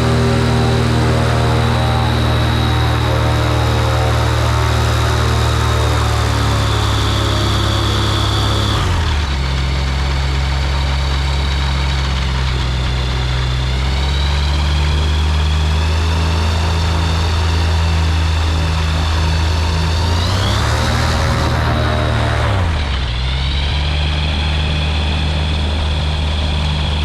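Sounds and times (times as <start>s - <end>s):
light aircraft engine and propeller: 0.0s - 27.0s.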